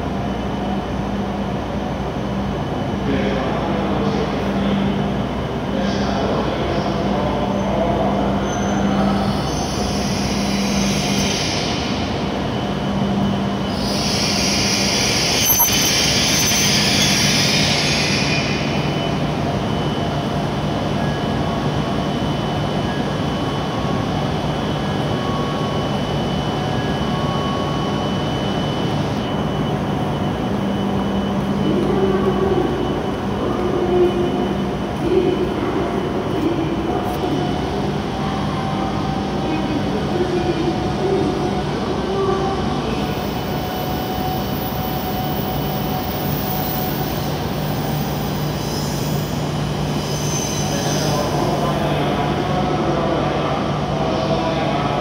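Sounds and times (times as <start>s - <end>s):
train pulling in and stopping: 0.0s - 55.0s.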